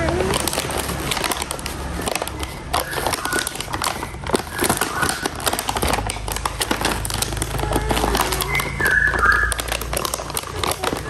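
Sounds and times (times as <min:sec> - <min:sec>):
packaging crinkling: 0:00.0 - 0:11.0
plastic toy pieces clicking: 0:00.0 - 0:11.0.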